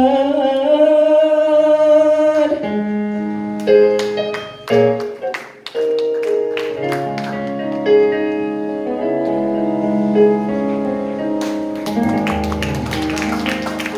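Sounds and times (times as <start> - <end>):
electronic keyboard playing chords: 2.6 - 13.9.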